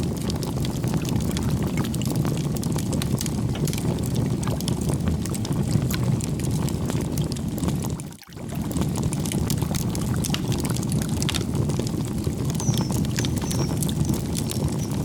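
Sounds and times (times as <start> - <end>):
campfire flames rushing: 0.0 - 15.0
wood crackling and popping: 0.0 - 15.0.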